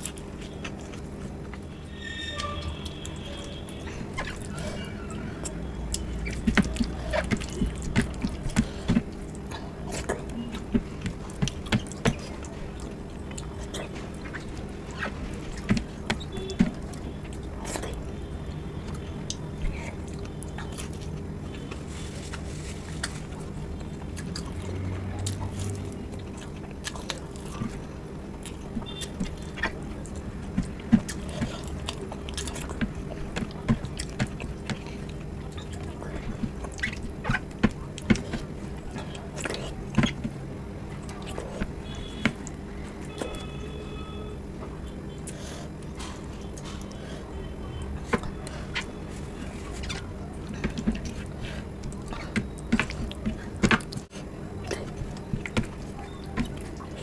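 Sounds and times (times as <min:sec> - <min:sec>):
person chewing and smacking: 0:00.0 - 0:01.8, 0:02.4 - 0:43.8, 0:44.6 - 0:57.0
wet squelches of hand mixing food: 0:00.0 - 0:43.5, 0:44.7 - 0:57.0.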